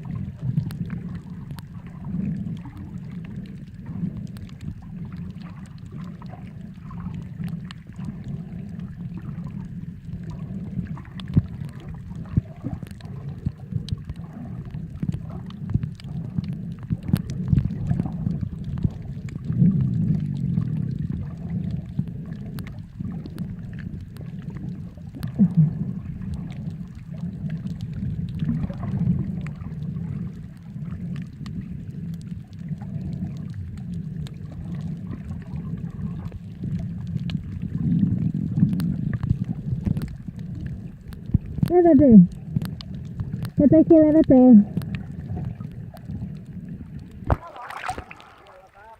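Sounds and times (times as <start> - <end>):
underwater low rumble: 0.0 - 48.9
underwater clicks and pops: 0.5 - 48.5.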